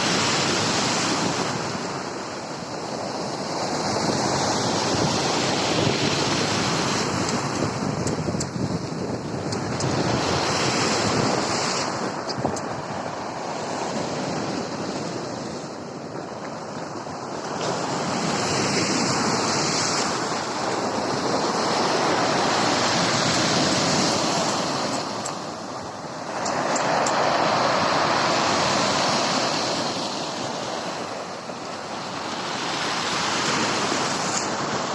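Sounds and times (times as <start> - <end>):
waves washing on shore: 0.0 - 34.9
wind on microphone: 0.0 - 34.9.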